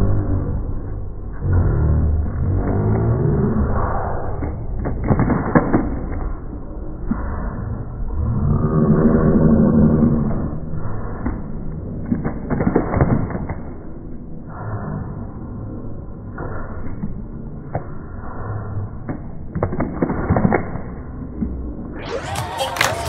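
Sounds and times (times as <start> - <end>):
low muffled rumble: 0.0 - 23.0.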